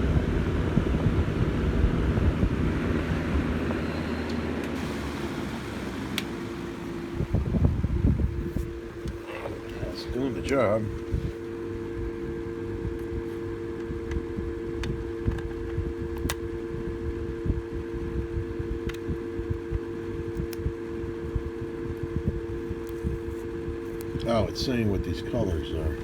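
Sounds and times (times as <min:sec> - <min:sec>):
electric fan air rush: 0:00.0 - 0:26.0
two-note electric hum: 0:00.0 - 0:26.0.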